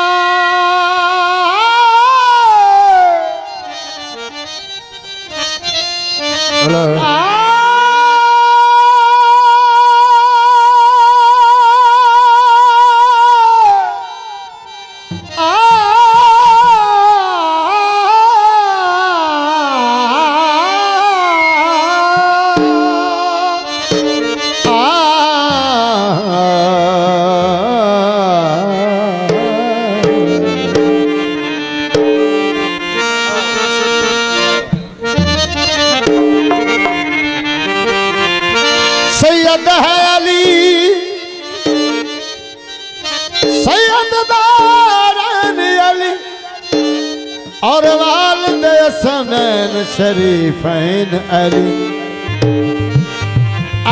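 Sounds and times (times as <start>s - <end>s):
harmonium held notes: 0.0s - 53.9s
man singing ornamented melody: 0.0s - 53.9s
tabla: 0.0s - 53.9s.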